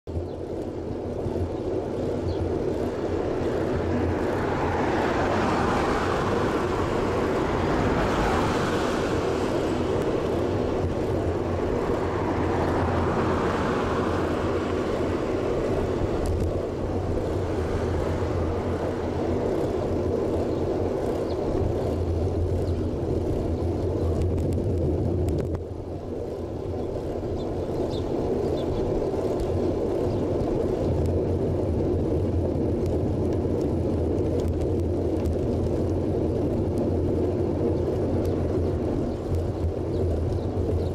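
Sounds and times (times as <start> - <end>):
bicycle tyres on road: 0.0 - 40.9
wind rumble on microphone: 0.1 - 40.9.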